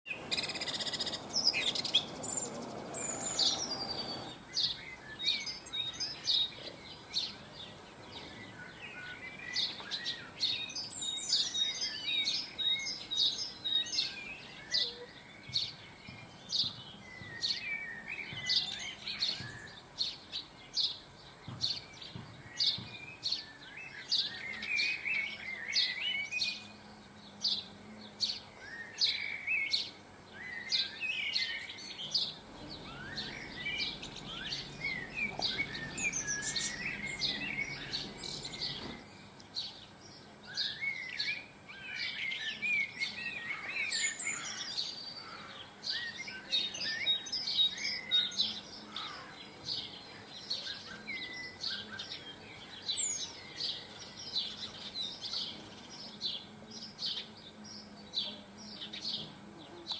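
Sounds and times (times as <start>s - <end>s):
songbirds singing and calling: 0.0s - 59.9s.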